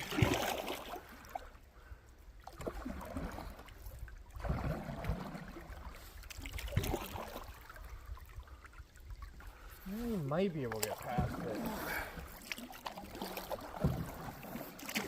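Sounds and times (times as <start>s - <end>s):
paddle strokes through water: 0.0s - 15.0s.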